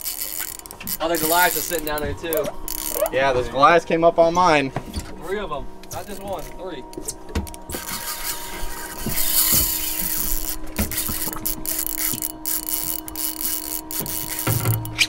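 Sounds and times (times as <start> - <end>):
fishing reel drag buzzing: 0.0 - 3.8, 5.8 - 15.0
steady hum: 0.0 - 15.0.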